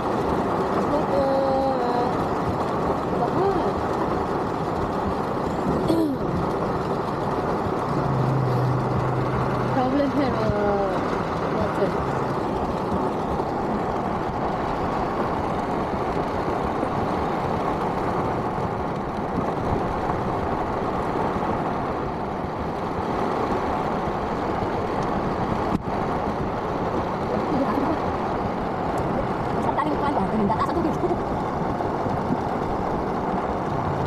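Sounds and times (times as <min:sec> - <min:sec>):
traffic noise from inside car: 0:00.0 - 0:34.0.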